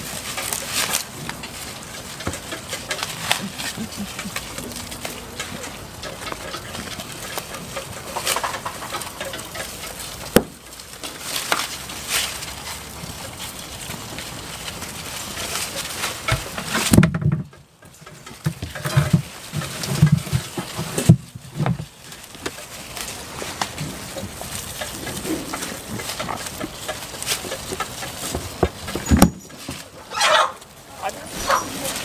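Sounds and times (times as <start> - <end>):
goats chewing leaves: 0.0 - 32.0
rustling foliage with snaps: 0.0 - 32.0.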